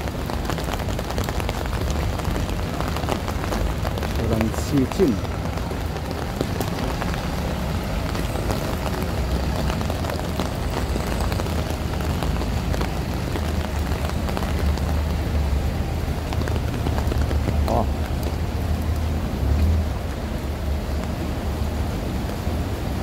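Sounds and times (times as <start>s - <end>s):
rain hissing: 0.0s - 23.0s
traffic rumble: 0.0s - 23.0s.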